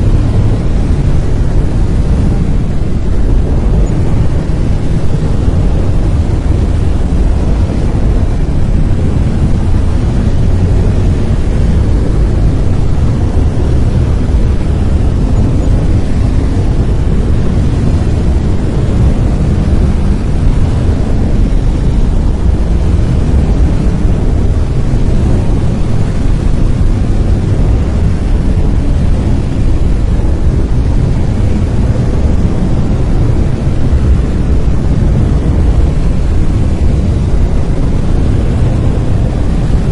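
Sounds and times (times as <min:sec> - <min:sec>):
deep rumbling hiss: 0:00.0 - 0:39.9.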